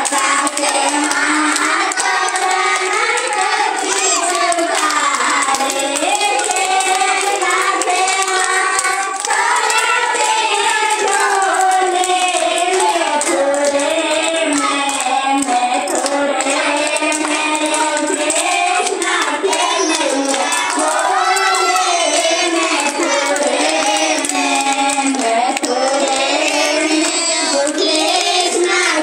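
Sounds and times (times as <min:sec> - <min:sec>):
hand clapping: 0:00.0 - 0:29.0
women and children singing: 0:00.0 - 0:29.0.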